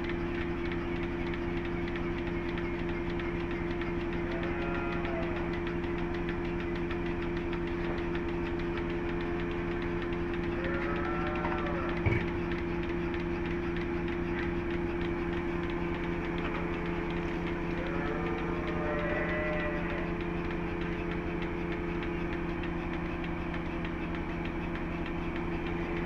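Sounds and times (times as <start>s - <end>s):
machine motor pulsing: 0.0s - 26.0s.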